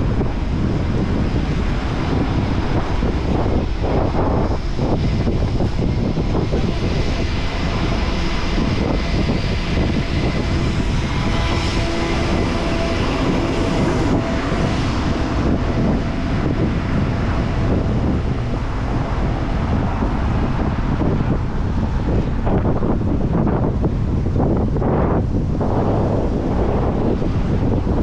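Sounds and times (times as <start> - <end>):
street traffic: 0.0 - 28.0
wind rushing on microphone: 0.0 - 28.0.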